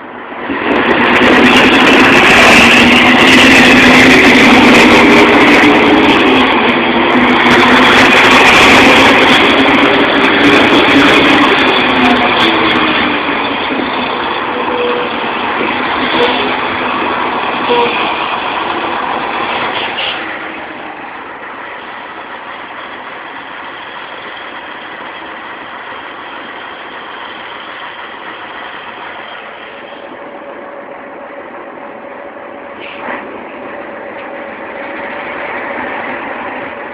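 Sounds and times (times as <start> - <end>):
loud diesel truck engine: 1.0 - 36.9.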